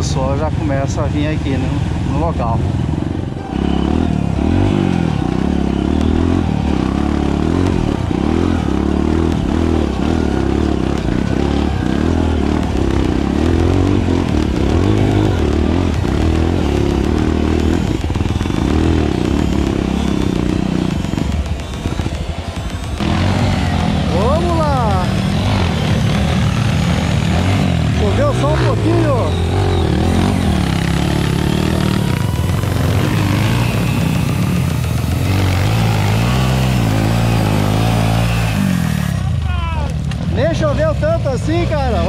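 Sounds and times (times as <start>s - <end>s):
dirt bike engine: 0.0s - 42.0s.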